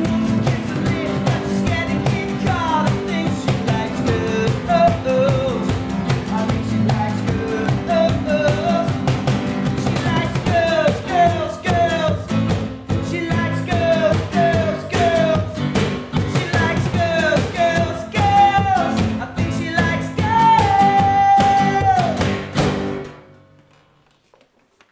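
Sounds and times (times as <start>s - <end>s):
man singing: 0.0s - 22.5s
cajon beat: 0.0s - 23.1s
strummed acoustic guitar: 0.0s - 23.5s.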